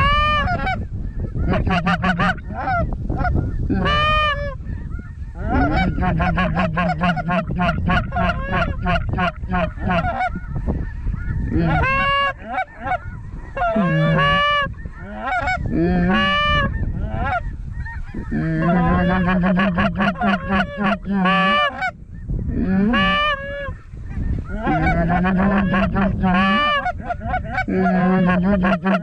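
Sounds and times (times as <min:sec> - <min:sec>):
goose honking and clucking: 0:00.0 - 0:29.0.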